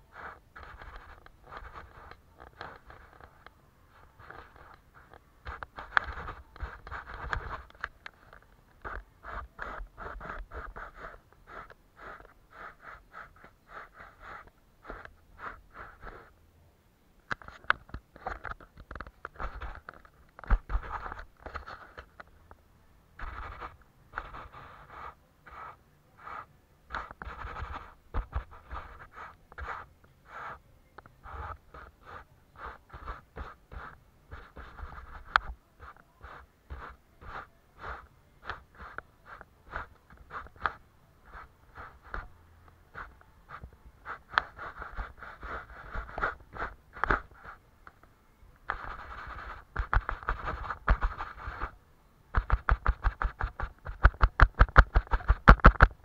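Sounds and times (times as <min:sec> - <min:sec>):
paintbrush strokes on paper: 0:00.0 - 0:16.4, 0:19.2 - 0:55.8.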